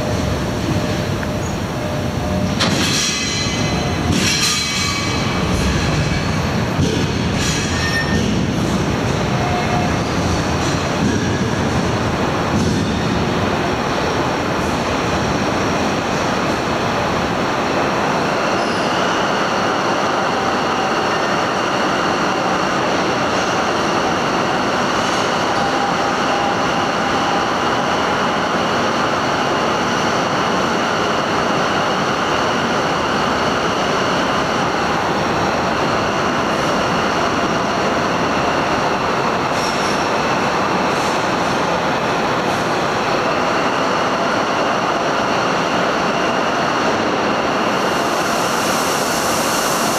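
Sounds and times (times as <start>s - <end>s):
train rolling on rails: 0.0s - 49.9s.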